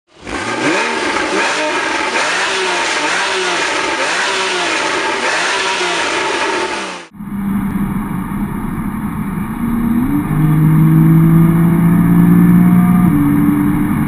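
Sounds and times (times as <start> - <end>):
car engine revving: 0.1 - 14.0
steady engine note: 0.2 - 14.0.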